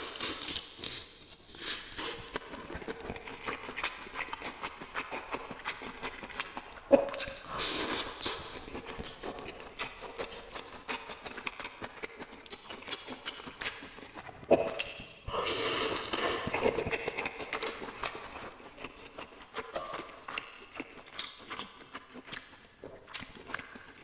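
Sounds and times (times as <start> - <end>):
slurping: 0.0 - 10.6, 12.0 - 21.4
chewing smacks: 0.0 - 15.2, 16.0 - 24.0.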